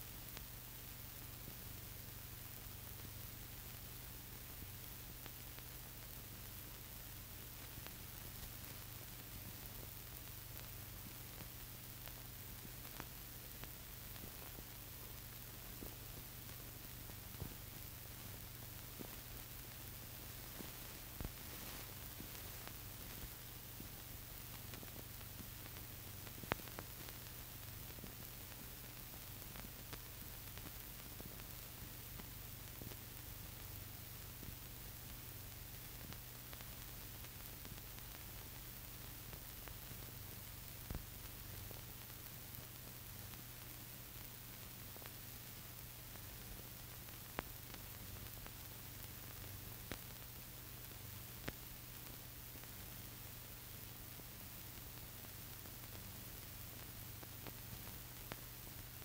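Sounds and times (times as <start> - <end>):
faint clicks and crackles: 0.0 - 59.0
film hiss and low hum: 0.0 - 59.0.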